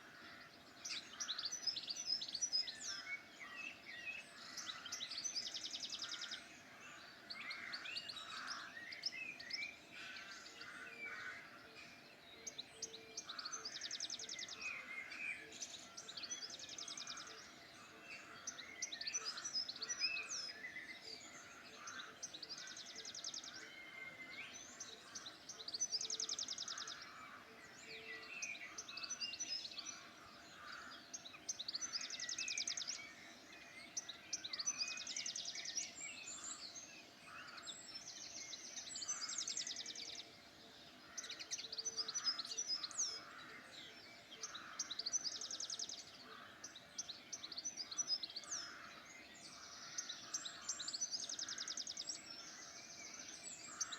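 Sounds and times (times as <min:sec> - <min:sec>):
songbirds singing: 0:00.0 - 0:53.9.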